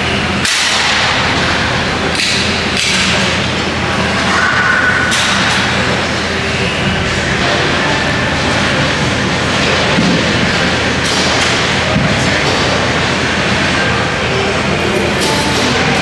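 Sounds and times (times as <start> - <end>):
busy gym background noise: 0.0 - 16.0.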